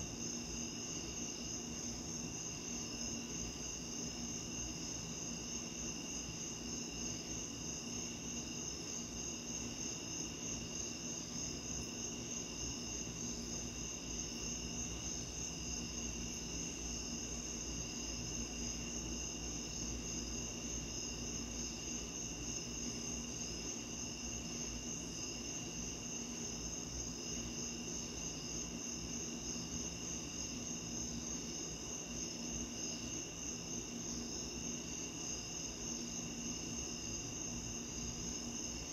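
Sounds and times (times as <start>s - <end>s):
low background hiss: 0.0s - 38.9s.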